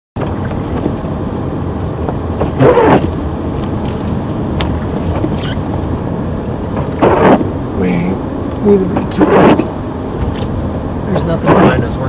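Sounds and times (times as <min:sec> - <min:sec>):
car engine and tyre noise: 0:00.2 - 0:12.0.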